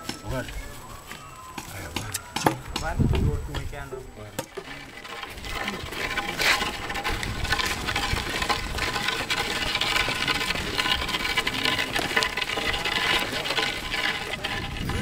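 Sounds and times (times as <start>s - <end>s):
footsteps on dirt road: 0.0s - 15.0s
ox hooves: 0.0s - 15.0s
steady rustling noise: 0.0s - 15.0s.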